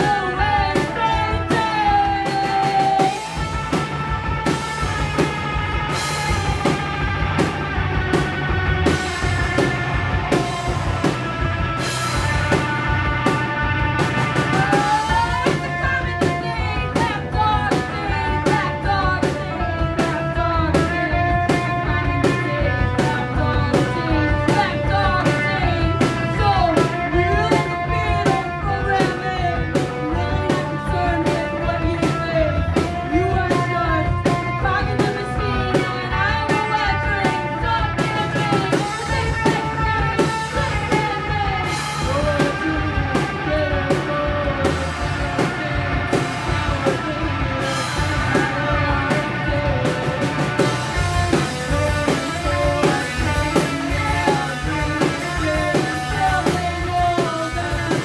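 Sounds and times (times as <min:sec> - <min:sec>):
drum kit beat: 0:00.0 - 0:58.0
electric guitar: 0:00.0 - 0:58.0
live rock band playing: 0:00.0 - 0:58.0
person singing: 0:00.0 - 0:58.0.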